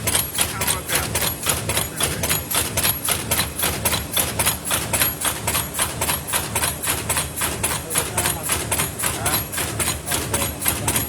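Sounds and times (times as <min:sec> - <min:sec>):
machine clattering in regular strokes: 0:00.0 - 0:11.0.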